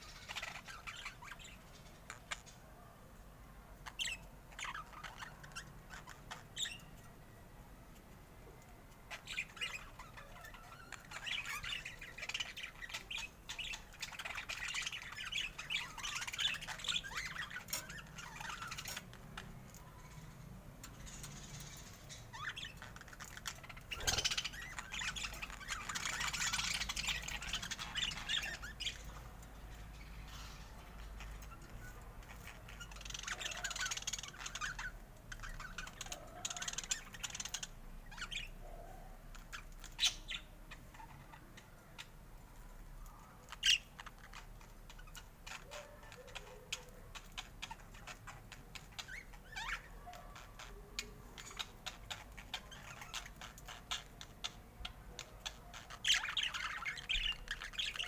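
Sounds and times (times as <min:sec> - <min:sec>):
budgerigars chattering and squawking: 0:00.0 - 0:02.7, 0:03.8 - 0:07.1, 0:09.1 - 0:42.2, 0:43.3 - 0:58.0.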